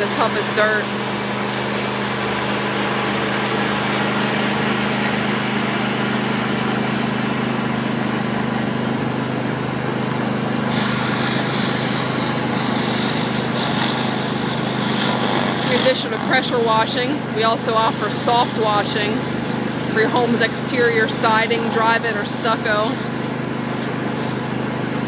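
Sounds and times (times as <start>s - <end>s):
pressure washer engine hum: 0.0s - 25.0s
surface cleaner spray hissing: 0.1s - 24.5s.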